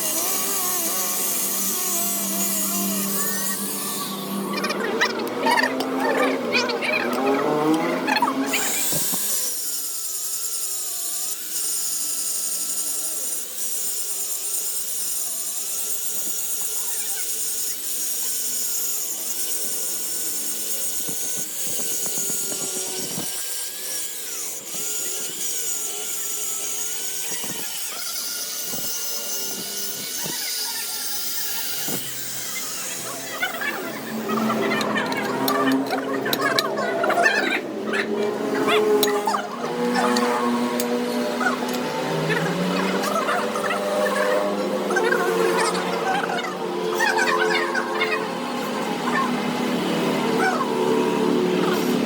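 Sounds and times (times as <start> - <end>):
power tool grinding metal: 0.0 - 52.0.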